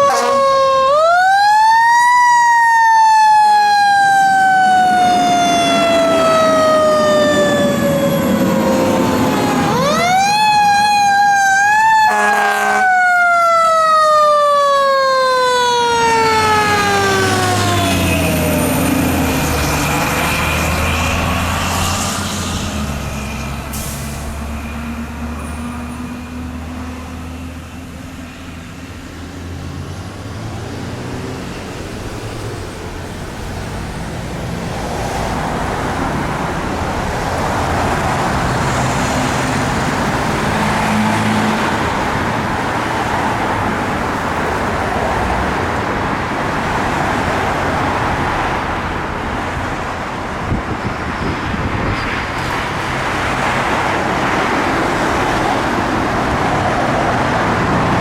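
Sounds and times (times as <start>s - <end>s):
heavy vehicle engine hum: 0.0s - 58.0s
tyre and traffic noise: 0.0s - 58.0s.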